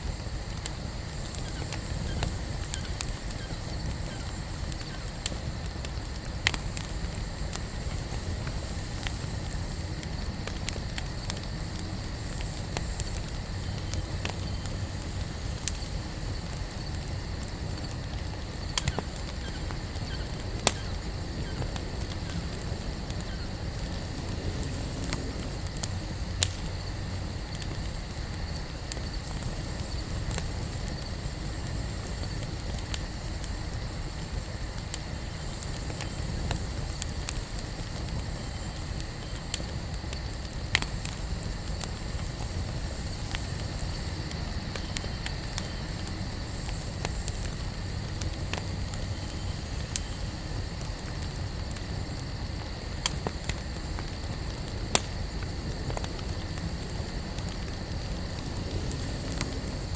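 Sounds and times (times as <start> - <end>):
campfire flames rumbling: 0.0 - 59.9
fire crackling and popping: 0.0 - 59.9.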